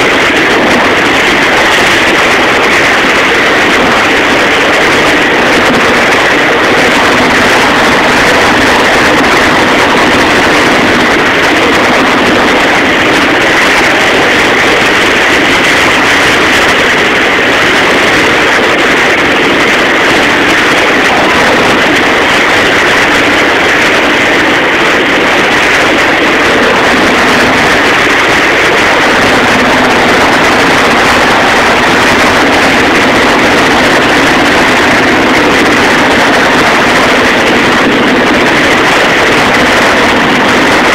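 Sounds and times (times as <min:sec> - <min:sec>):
boat motor running: 0:00.0 - 0:40.9
churned water rushing: 0:00.0 - 0:40.9.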